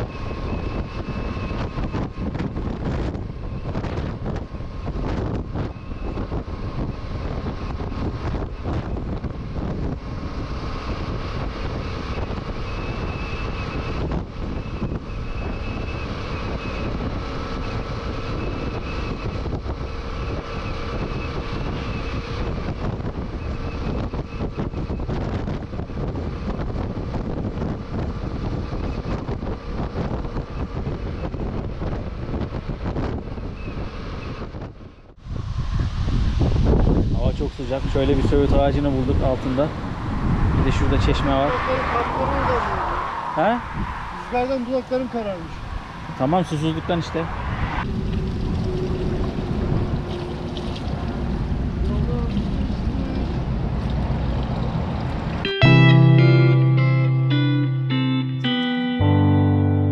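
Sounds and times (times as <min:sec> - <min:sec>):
wind buffeting microphone: 0:00.0 - 0:55.5
road noise: 0:00.0 - 0:59.9.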